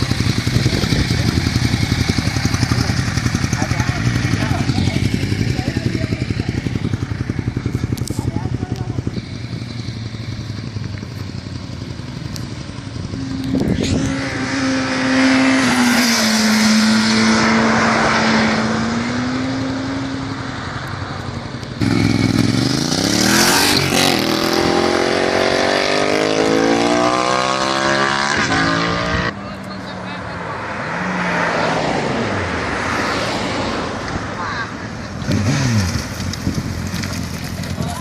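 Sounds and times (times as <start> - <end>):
motorcycle engine accelerating hard: 0.0 - 20.4, 21.8 - 29.4, 35.2 - 38.0
motorcycle passing by: 0.0 - 20.5, 21.8 - 34.4, 35.2 - 38.0.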